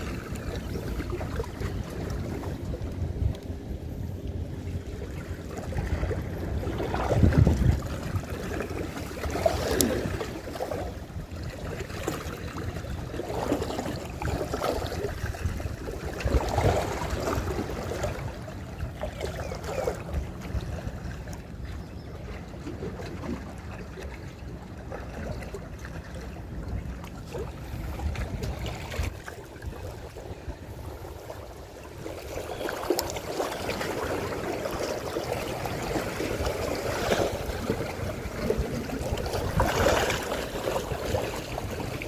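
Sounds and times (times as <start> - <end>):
seawater sloshing and lapping: 0.0 - 42.0.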